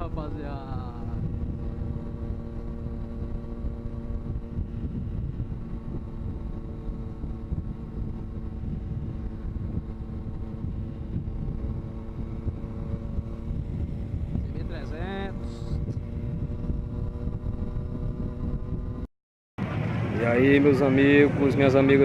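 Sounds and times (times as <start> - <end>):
motorcycle engine running: 0.0 - 22.0
wind rumbling on microphone: 0.0 - 22.0.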